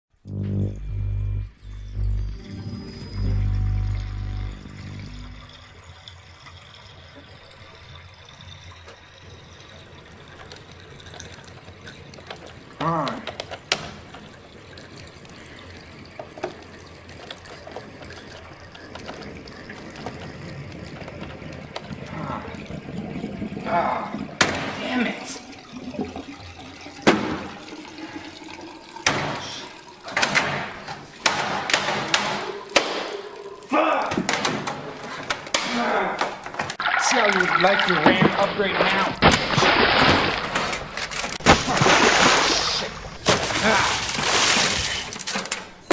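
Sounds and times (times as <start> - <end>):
water pouring into a vessel: 0.3 - 45.9.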